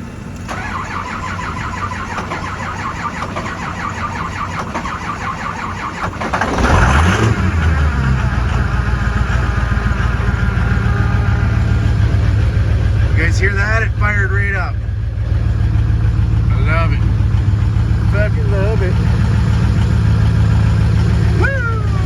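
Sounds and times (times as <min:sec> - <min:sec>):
diesel engine cranking and starting: 0:00.0 - 0:22.0.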